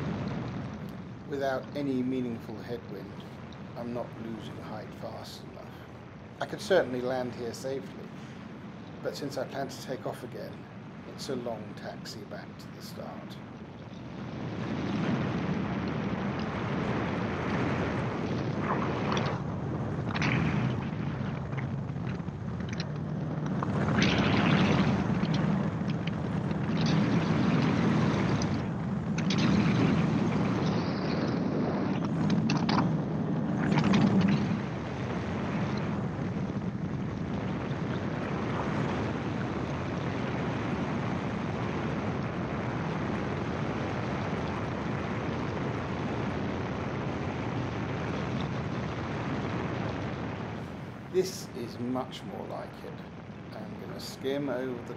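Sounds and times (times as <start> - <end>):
wind rushing over cockpit: 0.0 - 54.9.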